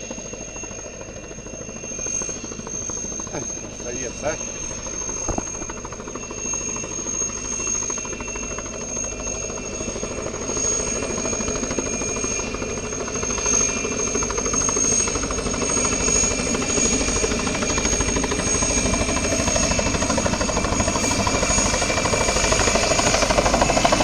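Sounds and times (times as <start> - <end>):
helicopter rotor chop: 0.0 - 24.0.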